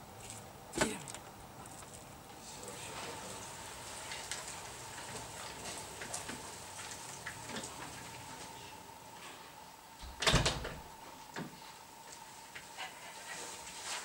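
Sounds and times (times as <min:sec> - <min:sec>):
steady hiss: 0:02.2 - 0:14.0.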